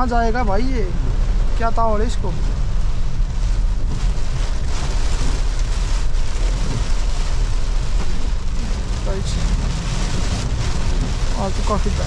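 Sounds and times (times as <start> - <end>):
heavy rain drumming on car: 0.0 - 12.0
vehicle driving rumble: 0.0 - 12.0.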